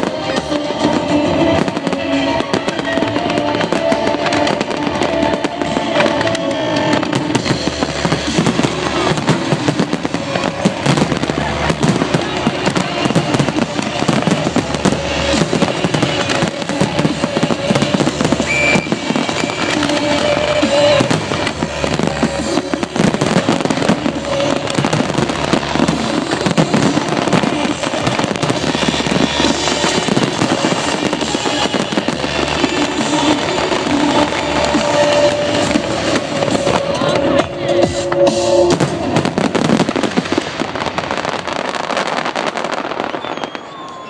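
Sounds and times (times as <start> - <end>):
fireworks bangs and crackling: 0.0 - 44.0
show music: 0.0 - 44.0.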